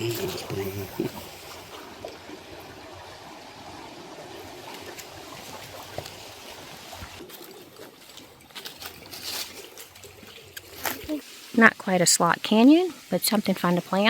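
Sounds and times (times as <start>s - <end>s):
river water running: 0.0s - 14.0s.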